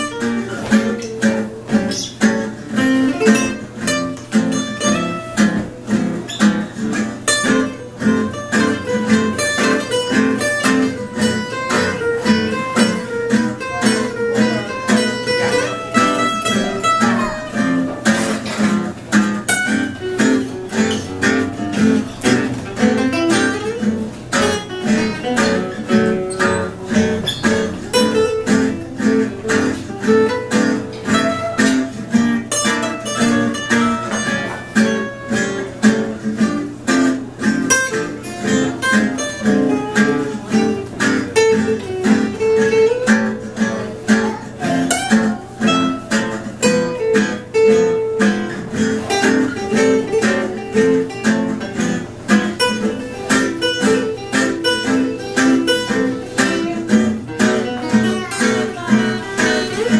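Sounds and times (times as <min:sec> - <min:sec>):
picked guitar melody: 0:00.0 - 0:59.9
strummed guitar chords: 0:00.0 - 0:59.9.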